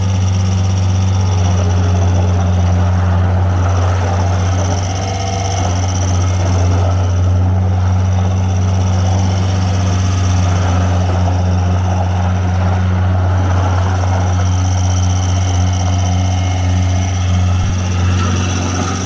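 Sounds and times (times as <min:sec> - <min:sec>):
engine running deep hum: 0:00.0 - 0:19.0.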